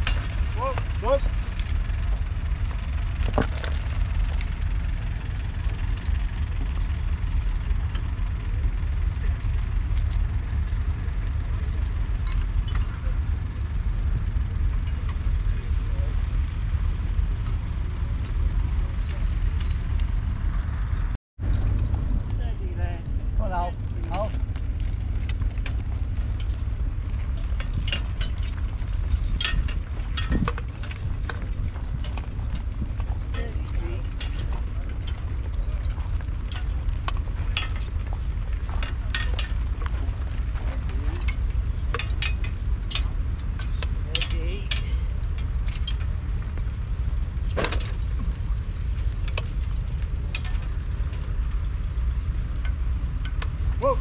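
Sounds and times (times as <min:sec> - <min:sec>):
harness chains clinking: 0:00.0 - 0:13.5, 0:14.1 - 0:54.0
low rumble: 0:00.0 - 0:54.0
wind buffeting microphone: 0:00.0 - 0:54.0.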